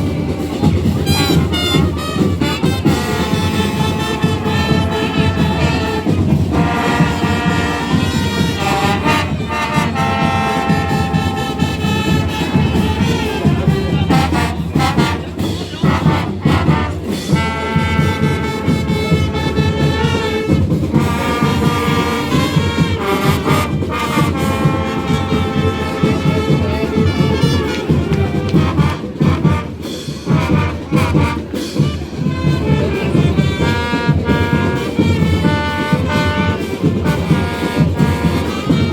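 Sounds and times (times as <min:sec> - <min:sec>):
brass horns playing held notes: 0:00.0 - 0:38.9
steady drum beat: 0:00.0 - 0:38.9.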